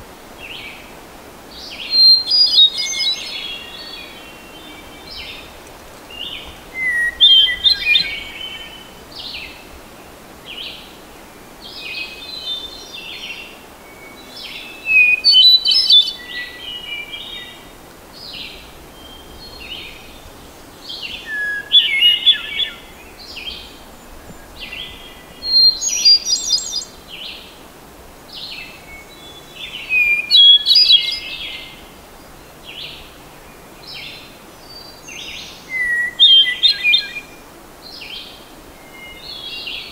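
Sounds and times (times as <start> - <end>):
faint bird song: 0.0 - 39.9.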